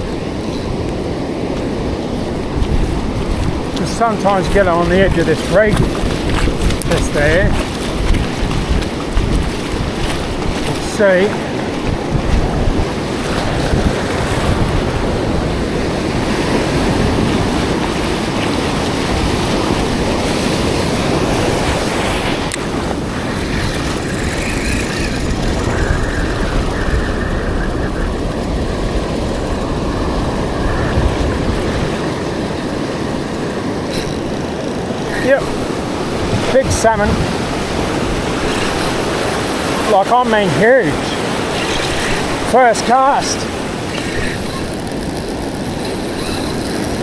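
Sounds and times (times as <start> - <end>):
surf breaking on beach: 0.0 - 47.0
wind rumbling on microphone: 0.0 - 47.0.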